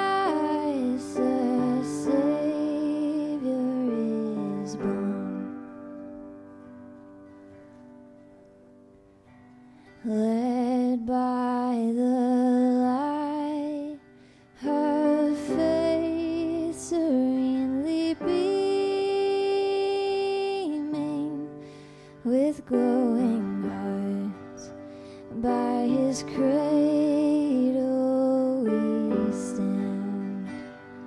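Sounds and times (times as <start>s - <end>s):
woman singing slow song: 0.0s - 6.1s, 9.9s - 31.0s.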